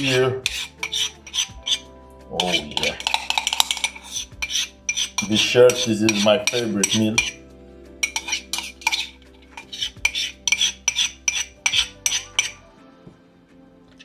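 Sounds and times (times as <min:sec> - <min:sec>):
spoon scraping a bowl: 0:00.0 - 0:07.4, 0:08.0 - 0:12.7.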